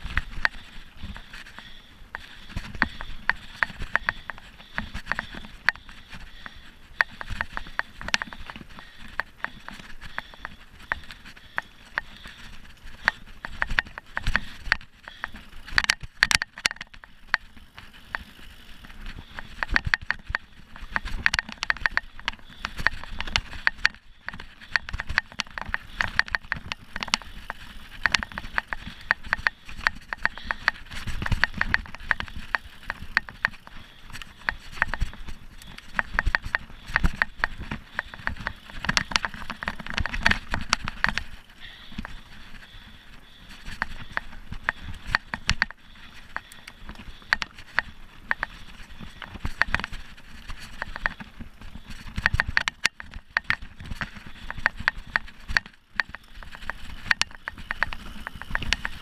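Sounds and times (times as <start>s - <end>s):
bike rattling and knocking: 0.0s - 59.0s.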